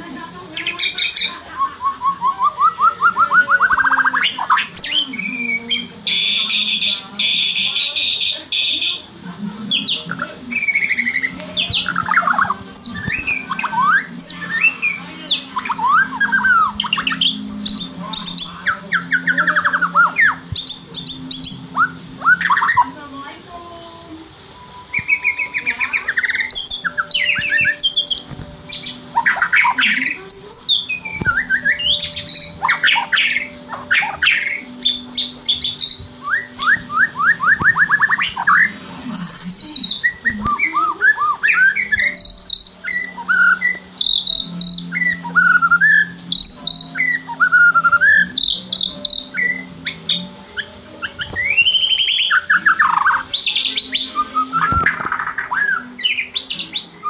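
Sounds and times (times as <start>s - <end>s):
bird singing varied whistles: 0.6s - 9.0s, 9.7s - 22.9s, 24.6s - 57.0s.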